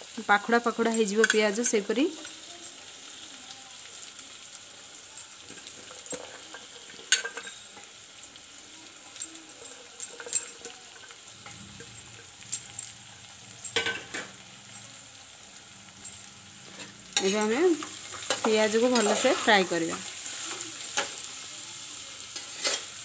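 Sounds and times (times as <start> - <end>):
onions sizzling in oil: 0.0 - 23.0.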